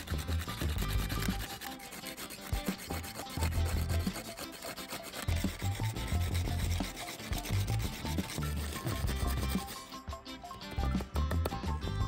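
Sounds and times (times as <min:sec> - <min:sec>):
carbon rod scraping sandpaper: 0:00.0 - 0:10.0.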